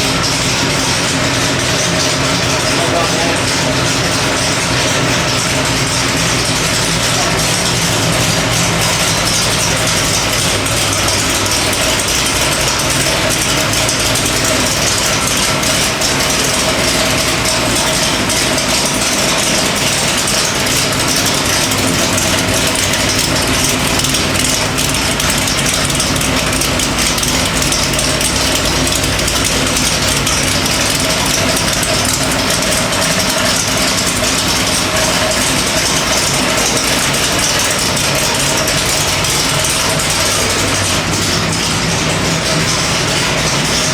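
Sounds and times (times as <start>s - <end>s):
engine running on dyno: 0.0s - 43.9s.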